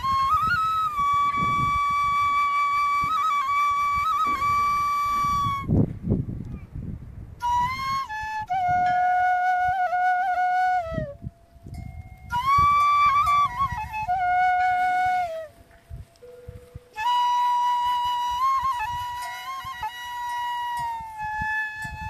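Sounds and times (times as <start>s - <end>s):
solo flute with trills: 0.0s - 22.0s.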